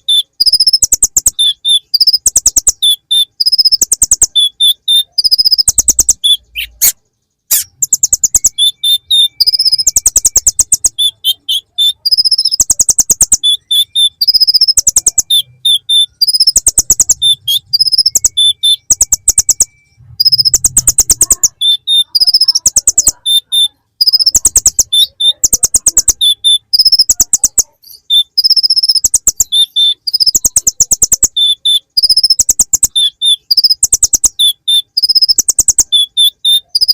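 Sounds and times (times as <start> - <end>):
bird trilling sharp chips: 0.0 - 36.9
high thin bird chirps: 0.0 - 36.9.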